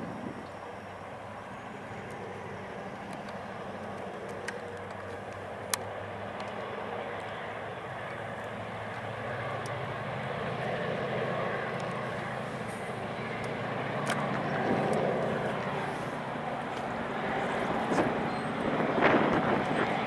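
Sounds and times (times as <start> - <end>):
distant diesel locomotive drone: 0.0 - 20.0.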